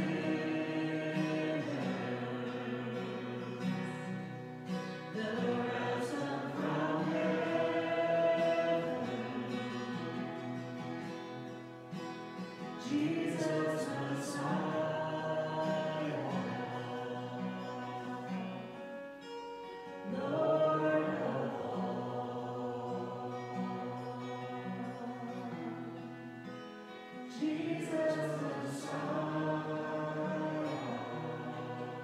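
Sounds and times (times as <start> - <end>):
worship song singing: 0.0 - 32.0.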